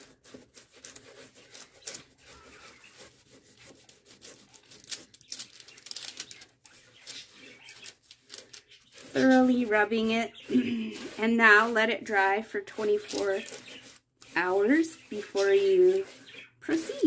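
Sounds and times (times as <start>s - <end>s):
cloth rag rubbing on paper: 0.0s - 17.0s.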